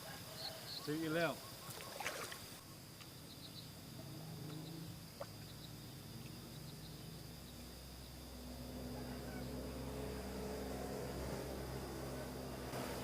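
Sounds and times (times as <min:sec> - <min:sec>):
insect chirring: 0:00.1 - 0:13.0.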